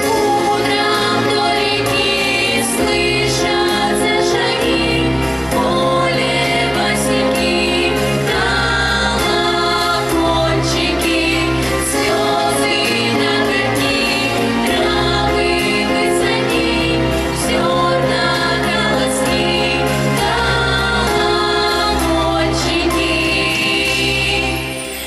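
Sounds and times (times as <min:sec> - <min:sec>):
children's choir singing: 0:00.0 - 0:25.0
instrumental accompaniment with bass: 0:00.0 - 0:25.0.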